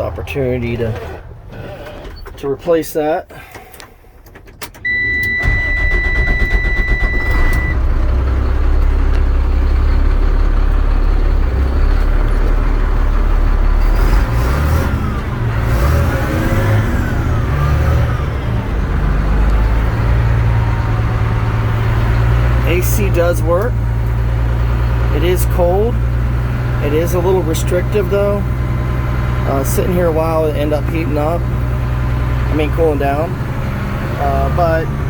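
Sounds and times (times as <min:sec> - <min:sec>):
diesel engine starting and running: 0:00.0 - 0:35.0.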